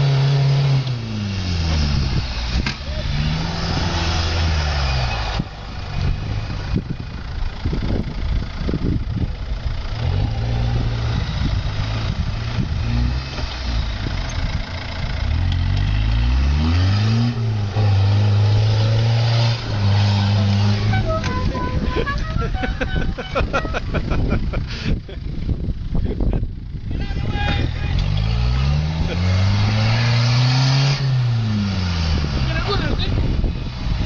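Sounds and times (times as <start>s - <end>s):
car engine labouring: 0.0s - 34.0s.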